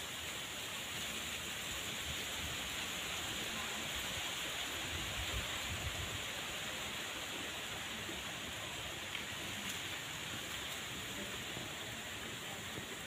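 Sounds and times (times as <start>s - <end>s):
outdoor hiss: 0.0s - 13.0s.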